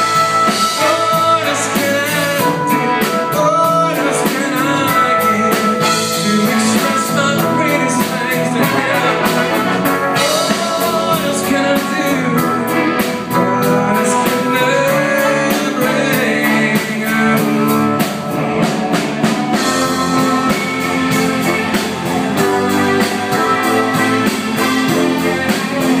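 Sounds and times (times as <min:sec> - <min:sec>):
drum kit: 0:00.0 - 0:26.0
electric guitar: 0:00.0 - 0:26.0
person singing: 0:00.0 - 0:26.0.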